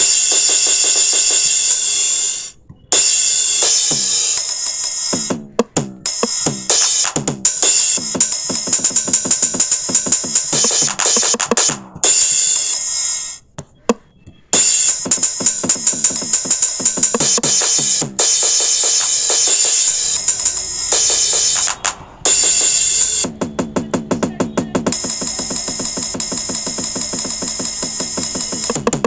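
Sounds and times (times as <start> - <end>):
music with drum-kit beat: 0.0 - 29.0.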